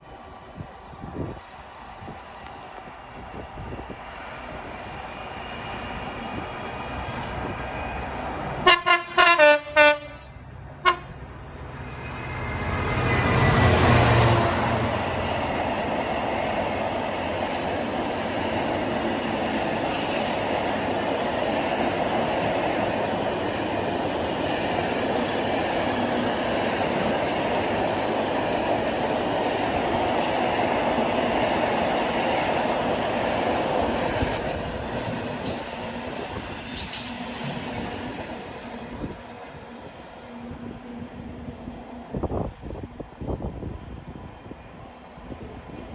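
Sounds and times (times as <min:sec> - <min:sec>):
train passing at speed: 0:00.0 - 0:45.9.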